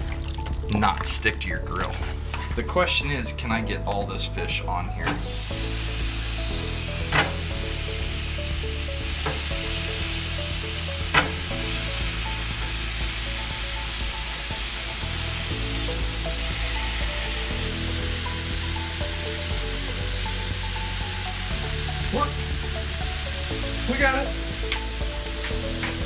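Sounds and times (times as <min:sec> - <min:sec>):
background music: 0:00.0 - 0:26.0
fish sizzling on a grill: 0:05.0 - 0:26.0.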